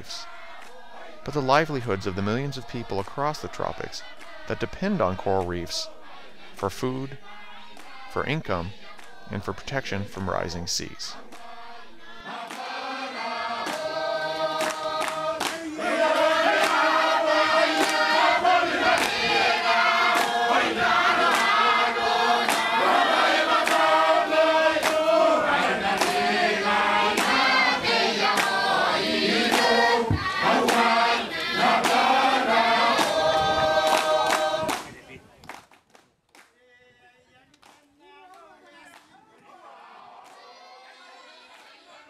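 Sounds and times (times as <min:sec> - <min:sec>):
sharp rhythmic beats: 0:00.0 - 0:34.6
choir singing in harmony: 0:00.0 - 0:34.9.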